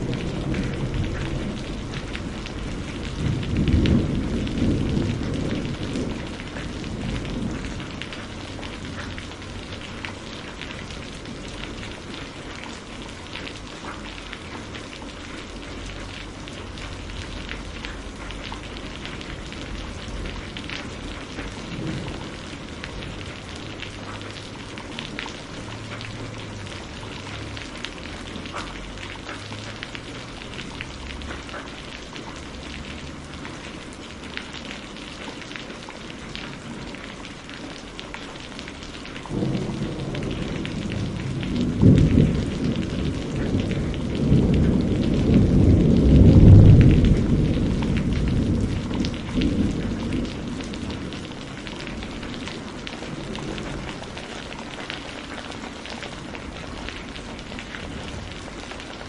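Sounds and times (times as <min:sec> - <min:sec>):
heavy rain falling: 0:00.0 - 0:59.0
low rumble of thunder: 0:00.0 - 0:59.0.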